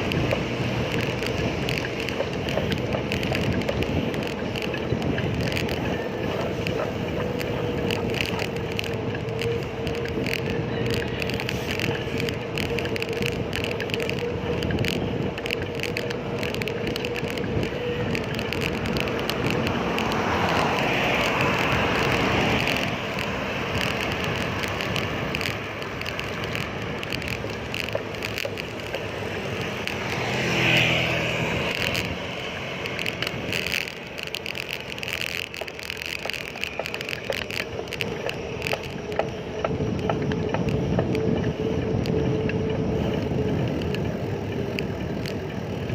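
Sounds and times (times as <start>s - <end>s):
vehicle passing: 0.0s - 38.4s
road and wind noise: 0.0s - 45.9s.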